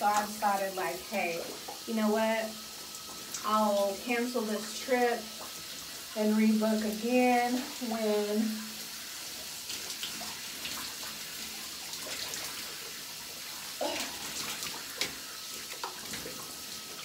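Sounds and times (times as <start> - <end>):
shower spray running: 0.0 - 17.0
water splashes: 0.0 - 17.0.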